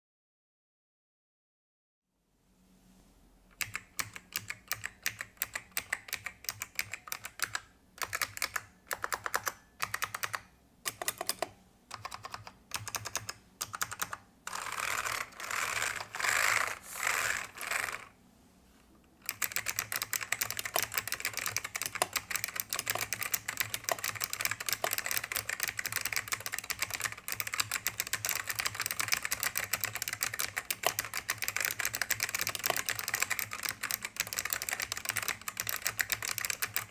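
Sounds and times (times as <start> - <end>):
mechanical keyboard typing: 3.6 - 18.1, 19.2 - 36.9.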